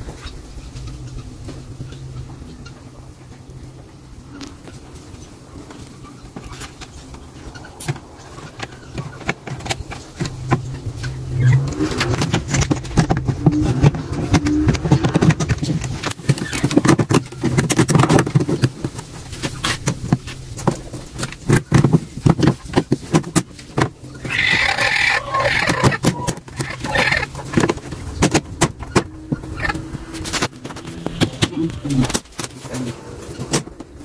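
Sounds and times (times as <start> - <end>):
steady low hum: 0.0 - 34.0
plastic knocks clicks and scrapes: 5.6 - 34.0.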